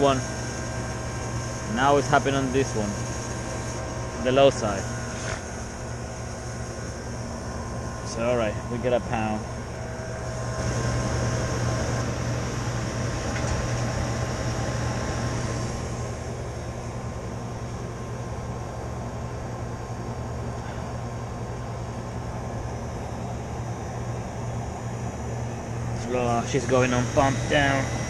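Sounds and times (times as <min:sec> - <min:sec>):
compressor and fan hum: 0:00.0 - 0:28.0.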